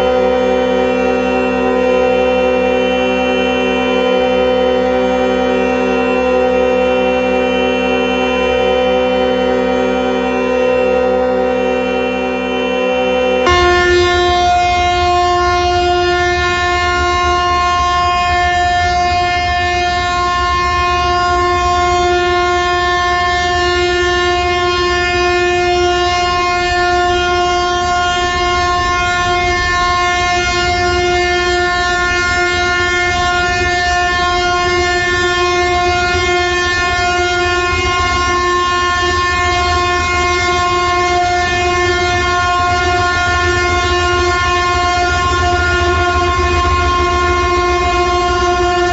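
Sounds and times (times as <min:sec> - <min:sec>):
long horn blast: 0:00.0 - 0:48.9.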